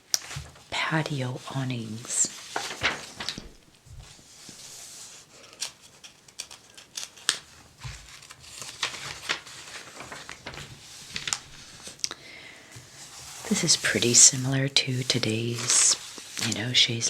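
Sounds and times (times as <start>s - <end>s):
paper pages rustling: 0.1s - 12.0s, 12.7s - 17.0s.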